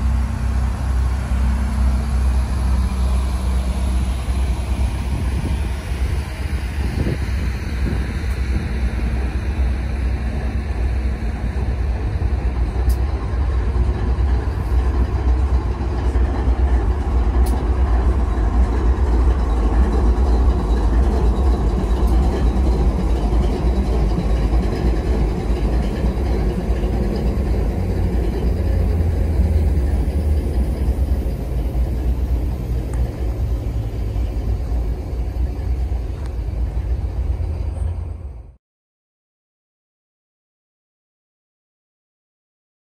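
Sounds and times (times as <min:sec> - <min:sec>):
locomotive engines idling: 0:00.0 - 0:38.6.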